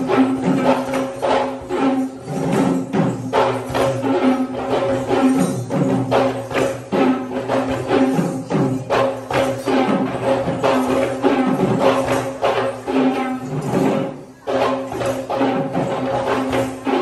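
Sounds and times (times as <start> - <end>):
drums in a steady rhythm: 0.0 - 17.0
jingling metal percussion: 0.0 - 17.0.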